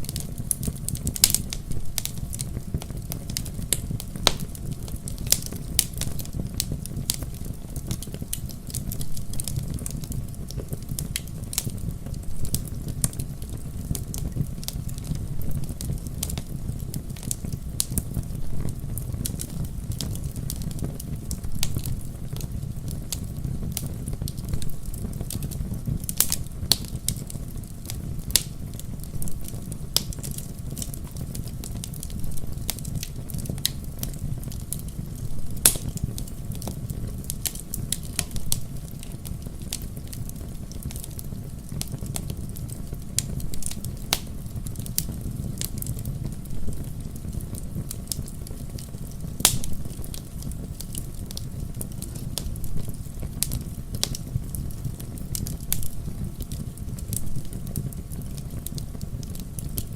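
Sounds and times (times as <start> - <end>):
sharp pops of fire: 0.0 - 59.9
wood fire crackling: 0.0 - 59.9.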